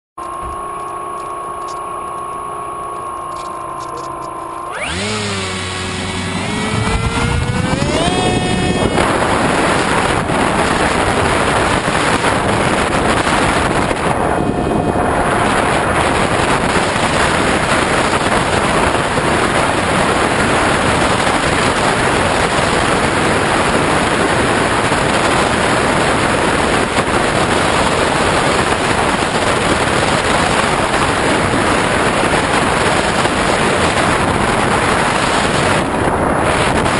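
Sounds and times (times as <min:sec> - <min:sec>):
model airplane motor revving: 0:00.2 - 0:36.0
wind rushing on microphone: 0:04.7 - 0:36.9.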